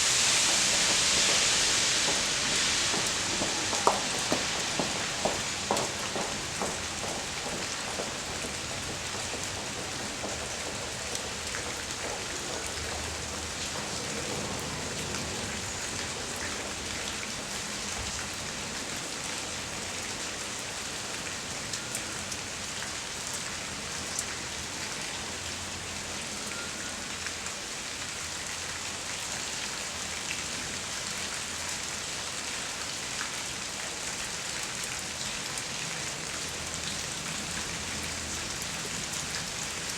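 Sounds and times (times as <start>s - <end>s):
rain pattering on street: 0.0s - 39.9s.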